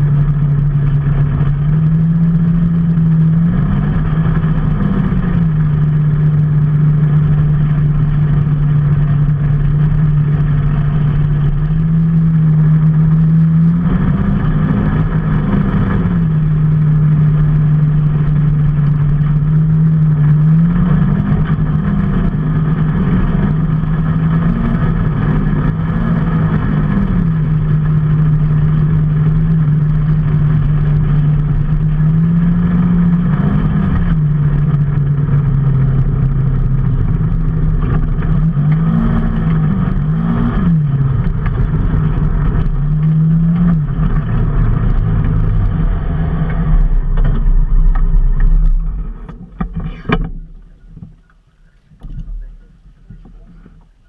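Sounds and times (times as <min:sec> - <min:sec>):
road noise rushing: 0:00.0 - 0:54.0
vehicle engine running: 0:00.0 - 0:54.0.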